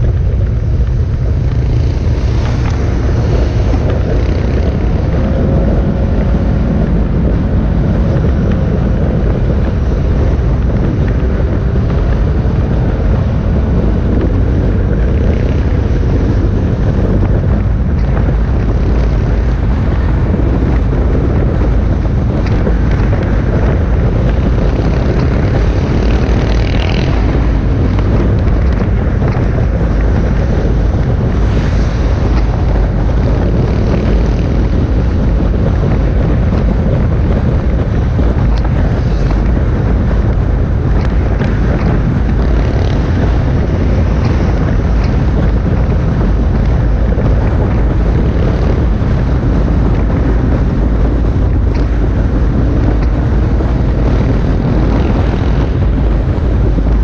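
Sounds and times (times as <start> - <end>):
motorcycle engines rumbling: 0.0 - 57.0
wind buffeting microphone: 0.0 - 57.0.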